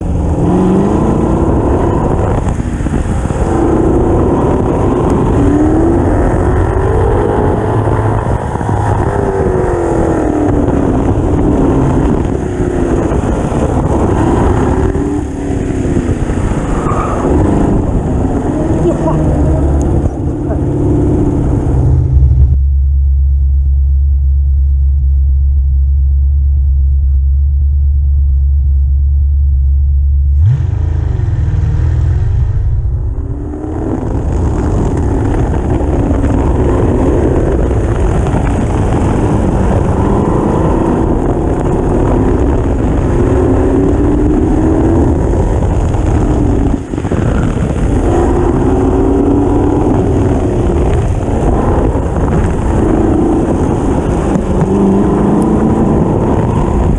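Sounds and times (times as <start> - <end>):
race car engine revving: 0.0 - 22.7, 30.2 - 56.9.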